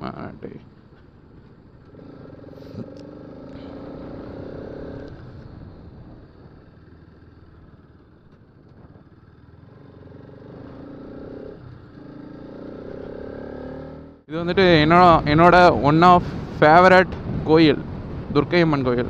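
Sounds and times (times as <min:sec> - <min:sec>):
motorcycle engine running: 0:00.0 - 0:15.6
road and wind noise: 0:00.0 - 0:19.0.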